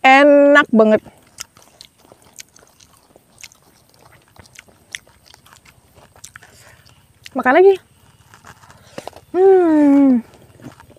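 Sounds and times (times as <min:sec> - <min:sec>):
person chewing food: 0:00.8 - 0:09.4, 0:10.2 - 0:10.9.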